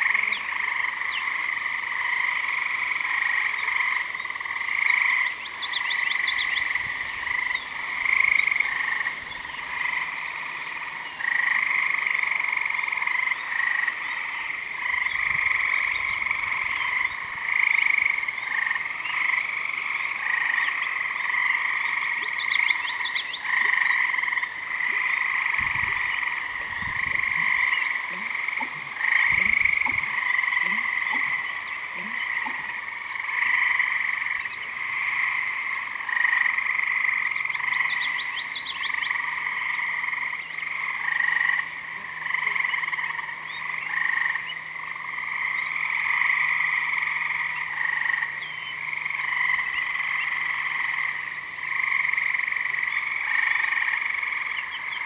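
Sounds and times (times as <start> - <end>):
bittern pumping call: 0.0 - 55.0
songbirds chirping: 0.0 - 55.0
tree frogs trilling: 0.0 - 55.0.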